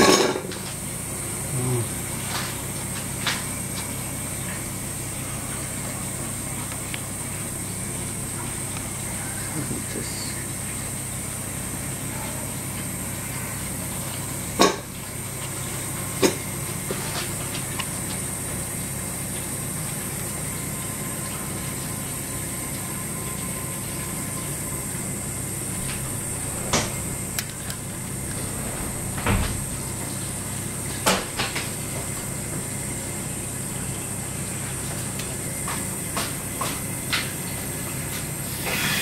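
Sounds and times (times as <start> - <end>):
low hum and hiss: 0.0 - 39.0.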